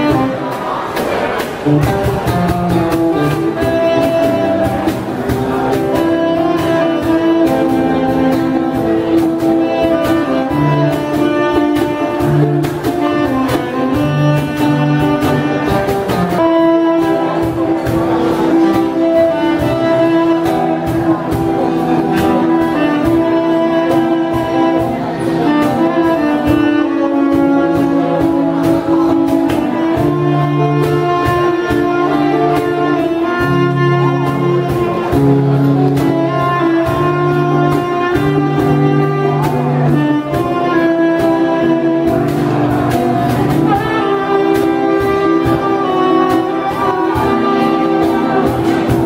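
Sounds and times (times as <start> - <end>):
cajon beat: 0.0 - 49.0
saxophone melody: 0.0 - 49.0.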